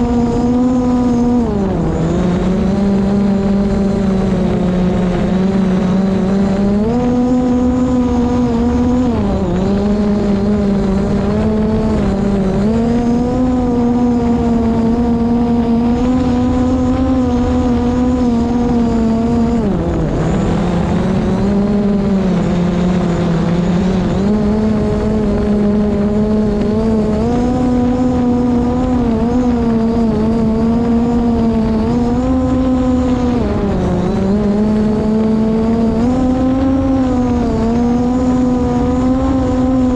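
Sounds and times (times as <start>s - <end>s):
drone propellers whining: 0.0s - 39.9s
wind rumbling: 0.0s - 39.9s.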